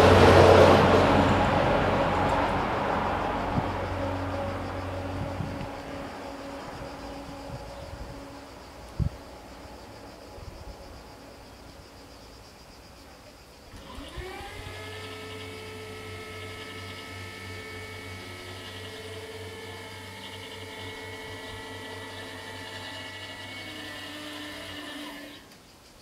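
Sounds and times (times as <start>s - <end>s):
barrier motor whining: 0.0s - 10.0s, 13.7s - 25.6s
low hum: 0.0s - 12.4s, 13.8s - 25.4s.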